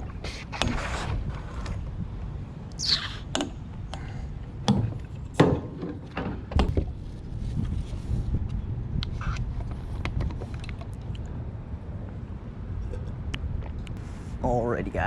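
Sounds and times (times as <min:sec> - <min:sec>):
wind rumble on microphone: 0:00.0 - 0:05.2, 0:06.4 - 0:15.0.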